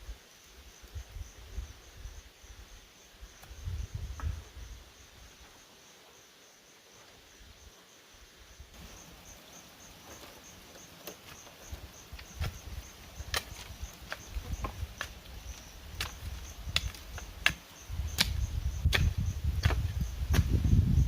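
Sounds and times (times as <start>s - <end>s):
insects chirping trill: 0.0s - 21.0s.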